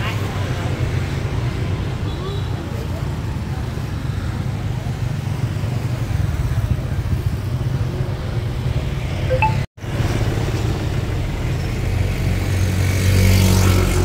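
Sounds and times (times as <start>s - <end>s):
motorbike traffic rumble: 0.0s - 14.0s.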